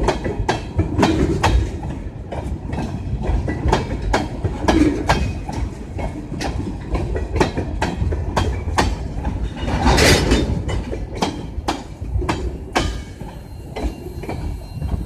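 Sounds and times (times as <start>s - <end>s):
low train rumble: 0.0s - 15.0s
train wheels clacking over rail joints: 0.0s - 15.0s.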